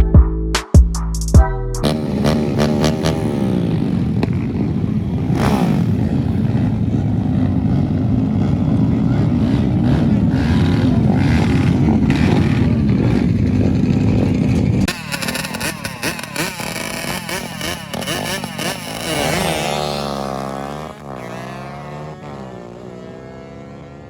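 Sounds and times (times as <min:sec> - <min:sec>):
motorcycle engine revving: 0:01.8 - 0:24.0
motorcycle engine running: 0:01.8 - 0:24.0.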